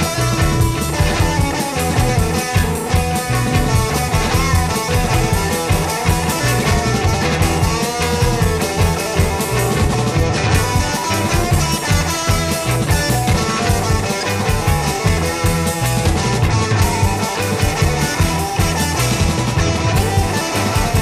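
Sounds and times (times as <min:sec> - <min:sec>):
bass guitar: 0:00.0 - 0:21.0
drum kit beat: 0:00.0 - 0:21.0
rock guitar: 0:00.0 - 0:21.0.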